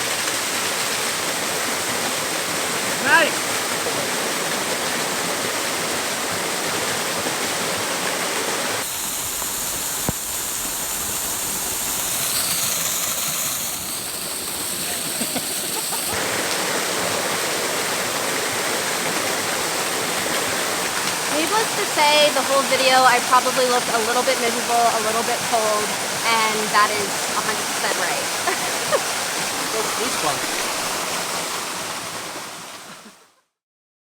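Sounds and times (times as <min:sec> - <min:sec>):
waterfall rushing: 0:00.0 - 0:33.1.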